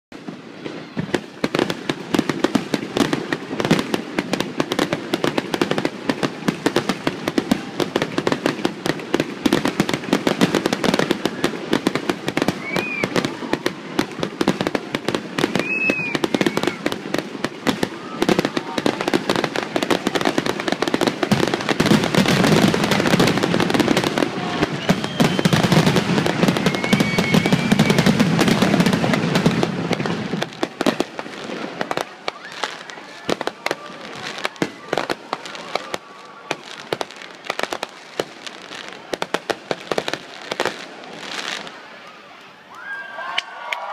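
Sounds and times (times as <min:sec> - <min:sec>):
fireworks bangs and crackling: 0:00.1 - 0:42.5.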